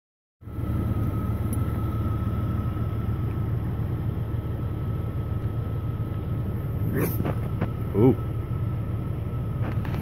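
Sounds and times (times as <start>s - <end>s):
thin steady whine: 0.4s - 10.0s
vehicle engine idling: 0.4s - 10.0s.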